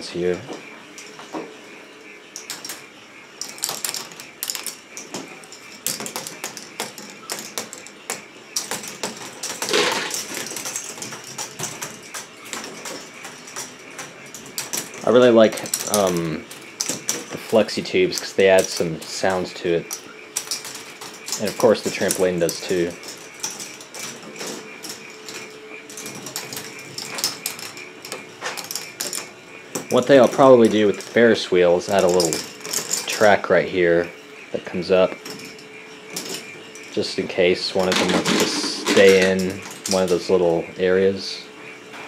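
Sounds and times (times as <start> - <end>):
motor hum: 0.0 - 42.0
plastic balls clattering on tracks: 2.3 - 40.7.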